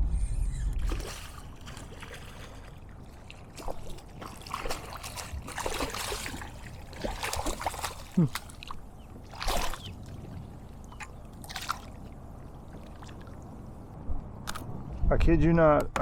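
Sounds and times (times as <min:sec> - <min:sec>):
water trickling and splashing: 0:00.8 - 0:14.0.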